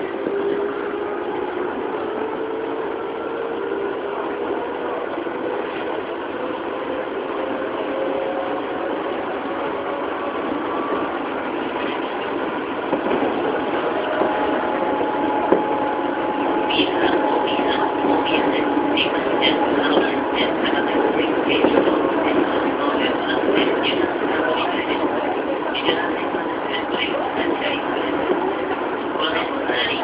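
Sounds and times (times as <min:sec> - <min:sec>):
wheel-on-rail noise: 0:00.0 - 0:30.0.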